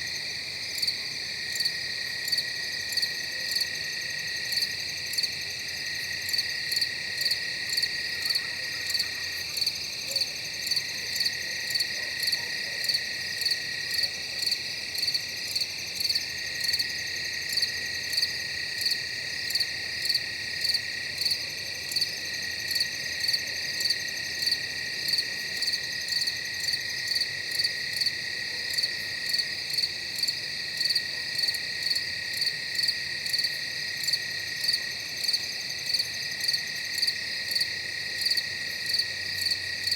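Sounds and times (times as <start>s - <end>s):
steady high insect drone: 0.0s - 39.9s.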